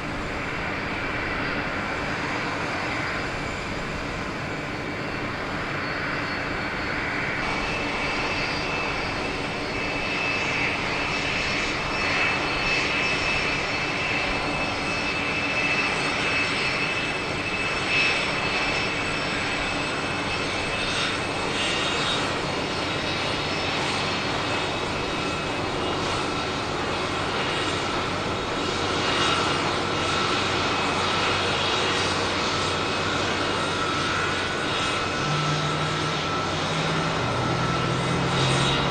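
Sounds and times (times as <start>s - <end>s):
jet engines rushing and whining: 0.0s - 38.9s.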